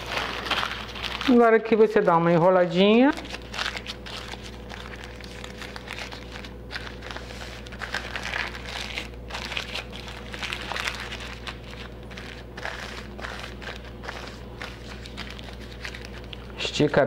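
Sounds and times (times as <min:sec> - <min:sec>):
parchment paper crinkling: 0:00.0 - 0:17.0.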